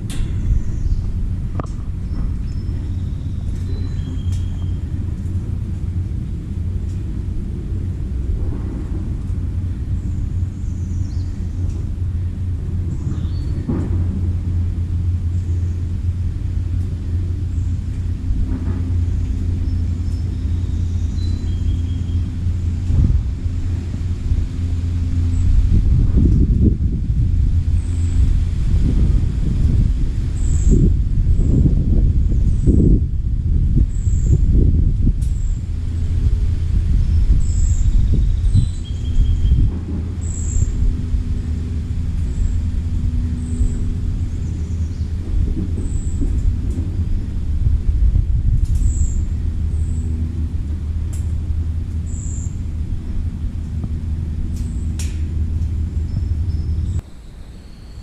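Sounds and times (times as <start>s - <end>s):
low rumble: 0.0s - 57.2s
steady low hum: 0.0s - 58.0s.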